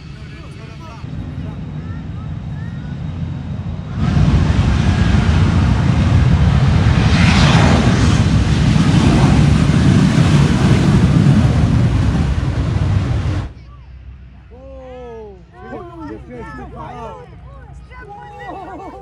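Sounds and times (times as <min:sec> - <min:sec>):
aircraft engine passing overhead: 0:00.0 - 0:19.0.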